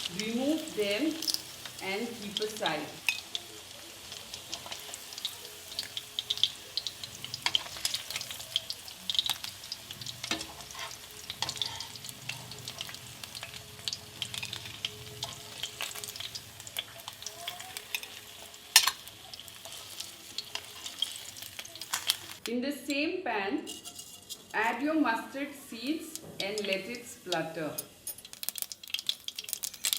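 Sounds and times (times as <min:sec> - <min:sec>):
hot oil crackling in a frying pan: 0:00.0 - 0:22.5, 0:26.0 - 0:29.9.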